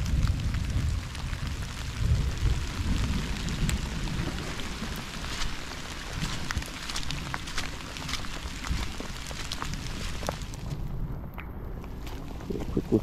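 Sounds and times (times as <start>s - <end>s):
low rumble: 0.0s - 13.0s
steady rain falling: 0.0s - 13.0s.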